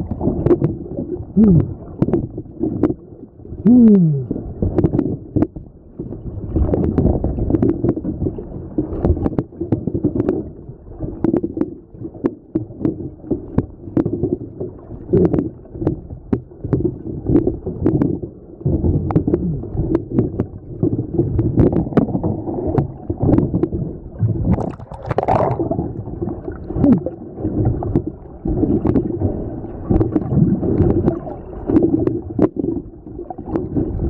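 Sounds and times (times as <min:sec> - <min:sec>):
underwater sloshing and gurgling: 0:00.0 - 0:34.0.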